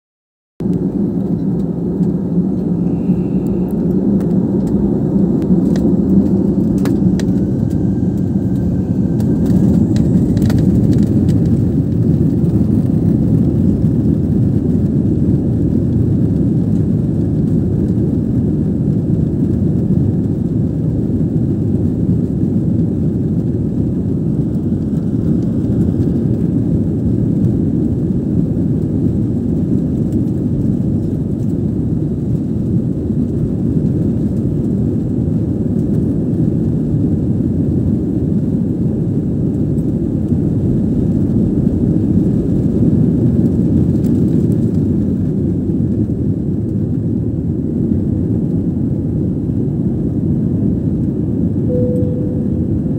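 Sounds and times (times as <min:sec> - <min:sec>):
jet engines roaring in cabin: 0:00.6 - 0:52.9.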